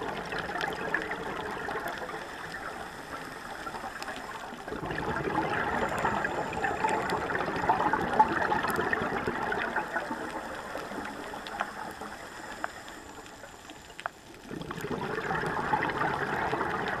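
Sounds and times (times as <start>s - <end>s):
underwater exhaled bubbles rushing: 0.0s - 17.0s
faint clicks: 0.1s - 4.8s, 5.4s - 17.0s.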